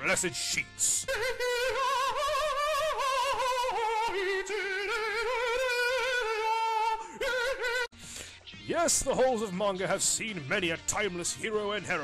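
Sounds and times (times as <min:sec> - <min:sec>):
operatic voice singing: 0:00.0 - 0:07.9, 0:08.5 - 0:12.0.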